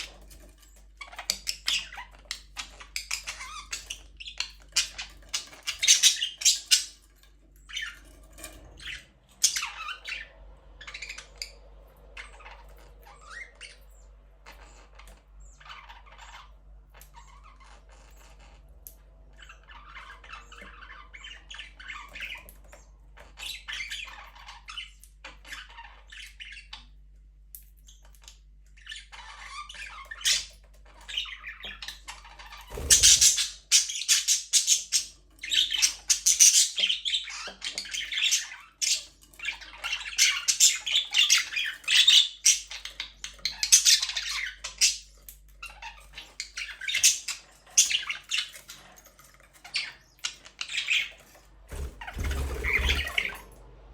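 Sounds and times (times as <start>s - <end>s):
budgerigars chattering and squawking: 0.0s - 27.1s, 27.9s - 53.6s.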